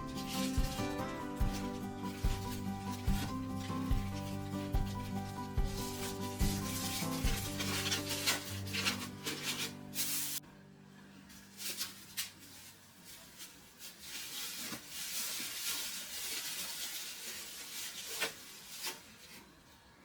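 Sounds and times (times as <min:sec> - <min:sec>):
packaging rustling: 0:00.0 - 0:10.4, 0:11.4 - 0:19.6.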